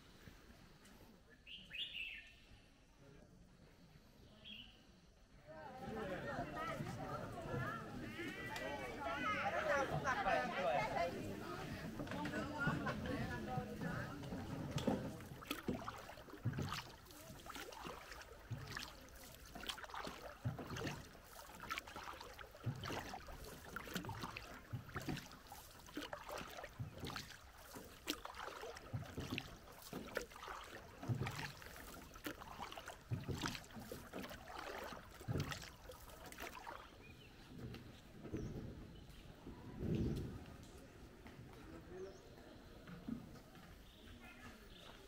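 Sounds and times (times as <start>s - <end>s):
water sloshing and clatter: 5.7s - 41.9s
oars knocking and splashing: 5.8s - 45.0s.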